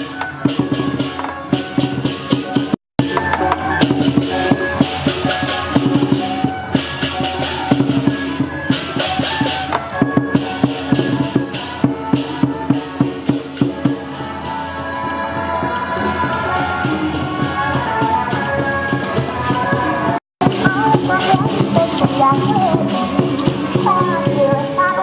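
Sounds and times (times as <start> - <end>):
fast drum and percussion strikes: 0.0 - 25.0.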